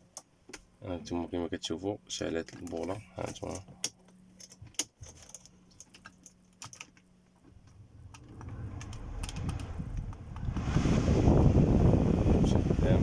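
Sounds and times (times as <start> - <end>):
blower fan rushing air: 2.4 - 13.0.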